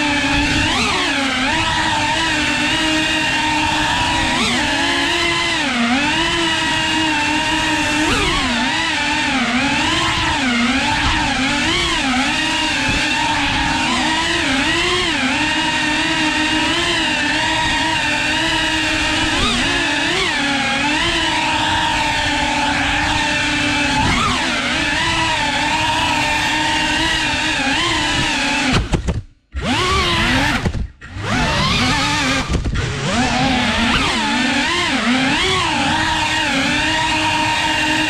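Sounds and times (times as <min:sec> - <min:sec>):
quadcopter motors whining: 0:00.0 - 0:38.0.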